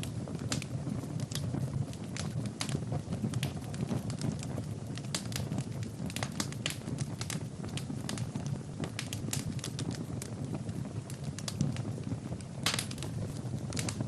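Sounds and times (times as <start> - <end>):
fireplace fire crackling: 0.0 - 14.0
low rumble of flames: 0.0 - 14.0.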